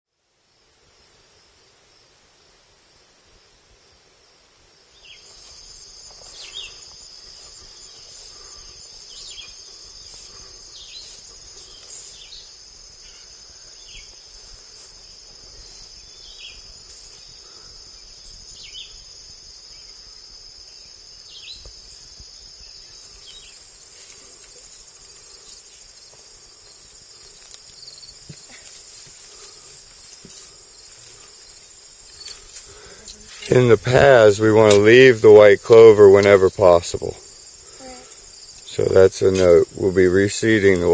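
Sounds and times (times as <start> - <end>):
crickets chirring: 0.3 - 40.9
higher insect buzz: 3.7 - 40.9.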